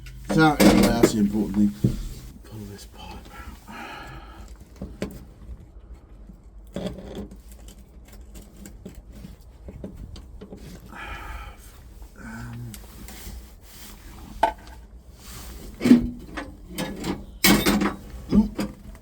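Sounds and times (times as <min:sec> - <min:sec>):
vacuum pipe rubbing and scraping: 0:00.0 - 0:03.7, 0:06.6 - 0:19.0.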